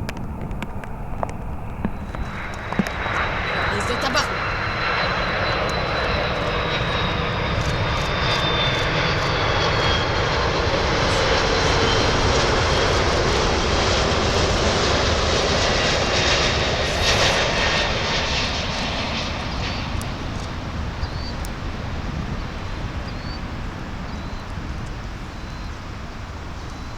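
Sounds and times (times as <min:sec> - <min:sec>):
jet airliner engine rush: 0:00.0 - 0:26.9.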